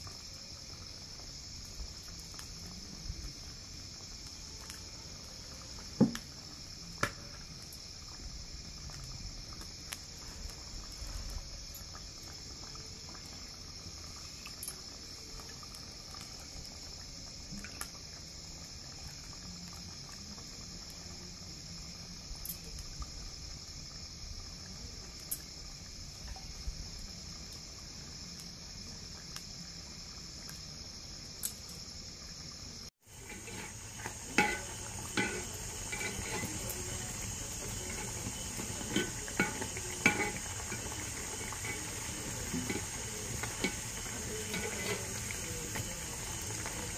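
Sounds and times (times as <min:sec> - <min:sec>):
batter sizzling in hot oil: 0:00.0 - 0:46.9.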